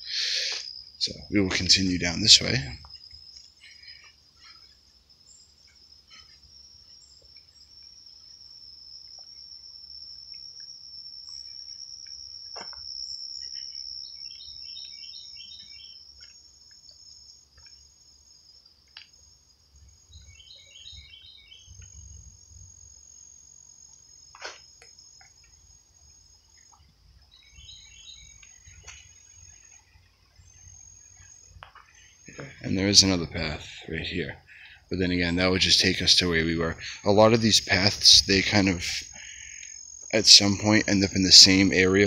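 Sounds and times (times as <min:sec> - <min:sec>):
crickets trilling: 0:00.0 - 0:42.0.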